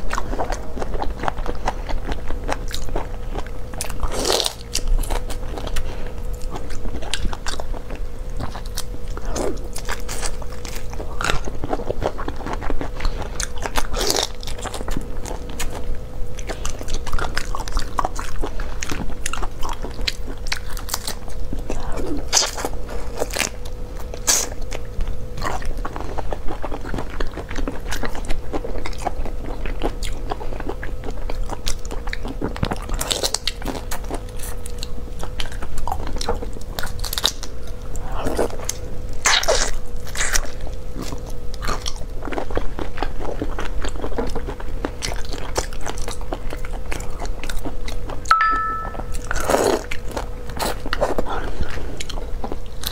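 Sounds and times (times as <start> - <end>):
person eating shrimp crunchily: 0.0 - 48.3, 49.2 - 52.9
faint steady hum: 0.0 - 52.9.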